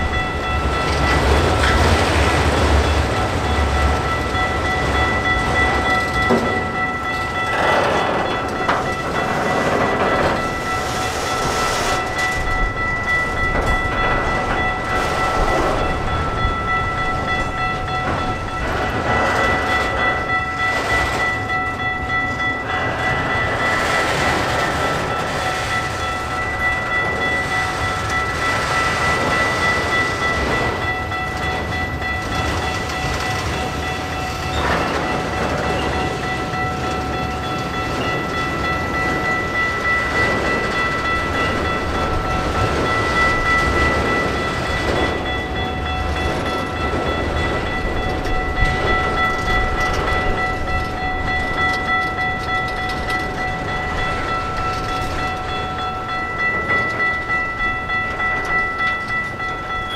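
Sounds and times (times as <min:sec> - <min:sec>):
train wheels rumbling and clacking: 0:00.0 - 0:59.9.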